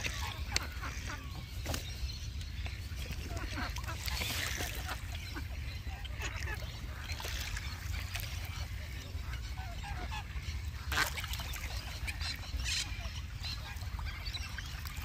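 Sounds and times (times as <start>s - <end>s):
ducks and birds calling: 0.0s - 15.0s.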